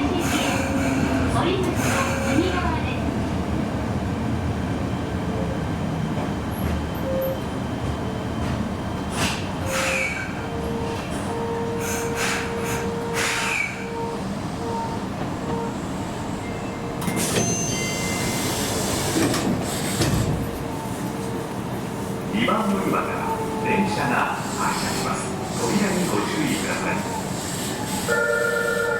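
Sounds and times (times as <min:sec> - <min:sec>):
train running rumble: 0:00.0 - 0:28.1.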